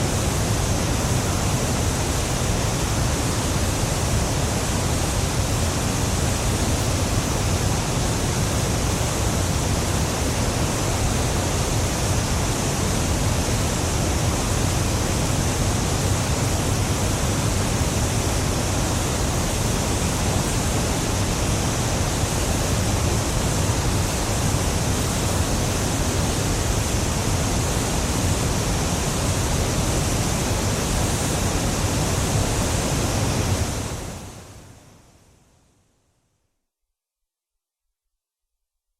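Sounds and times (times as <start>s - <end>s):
rush of falling water: 0.0s - 34.9s.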